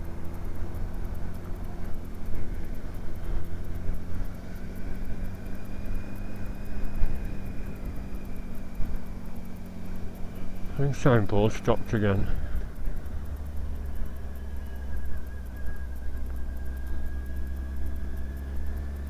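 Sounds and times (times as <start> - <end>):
motorcycle engine running: 0.0 - 19.0
road noise: 0.0 - 19.0.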